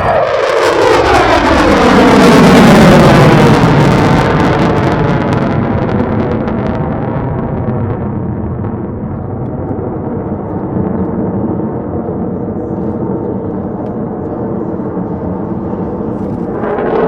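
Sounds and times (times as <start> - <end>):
distant jet roar: 0.0 - 17.0.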